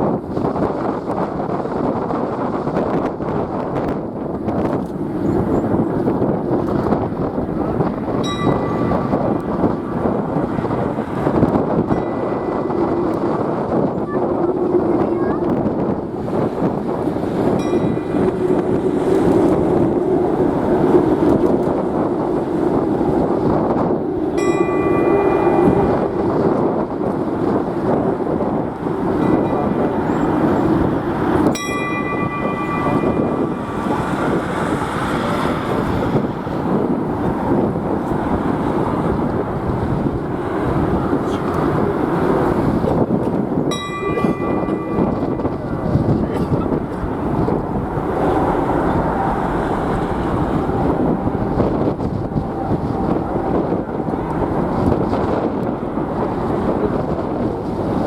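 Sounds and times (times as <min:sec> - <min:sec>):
jet engines rumbling: 0:00.0 - 0:58.0
wind buffeting microphone: 0:00.0 - 0:58.0
thin engine whine: 0:02.8 - 0:58.0
whining tones: 0:04.1 - 0:58.0.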